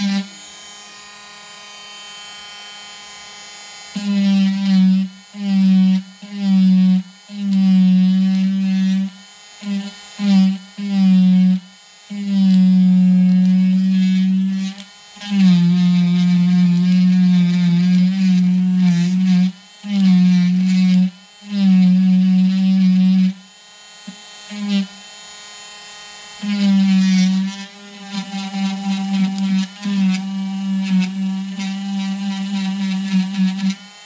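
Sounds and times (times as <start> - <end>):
rotary tool whining carving wood: 0.0 - 34.0.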